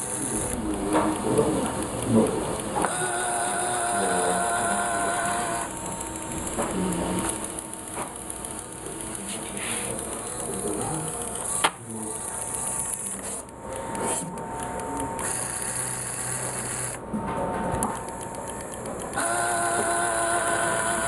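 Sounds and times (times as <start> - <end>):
electric motors whirring: 0.0 - 21.0
steady whine: 0.0 - 21.0.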